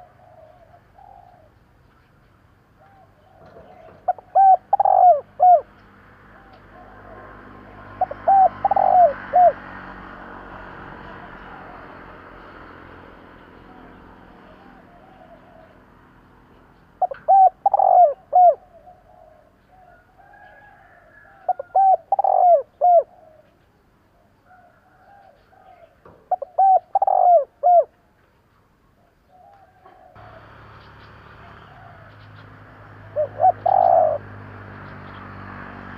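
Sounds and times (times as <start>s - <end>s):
dove cooing: 0.0s - 2.2s, 2.8s - 28.1s, 29.0s - 30.6s, 31.2s - 34.6s.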